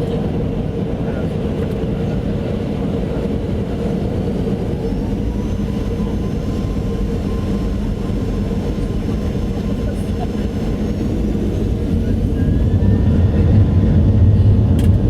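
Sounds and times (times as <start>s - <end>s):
aeroplane engines rumbling: 0.0s - 15.0s.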